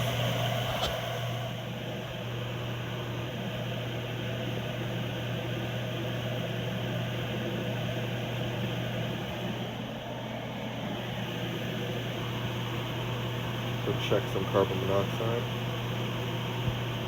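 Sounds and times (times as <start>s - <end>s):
furnace blower motor hum: 0.0s - 17.0s.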